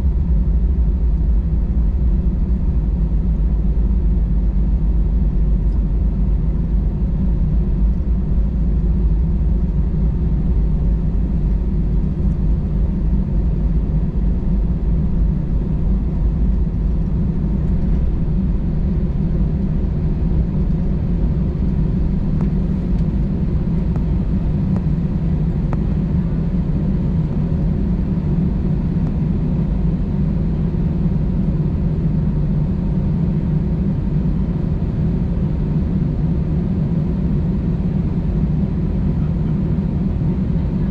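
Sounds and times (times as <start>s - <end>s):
airplane cabin rumble: 0.0s - 40.9s
faint engine whine: 0.0s - 40.9s.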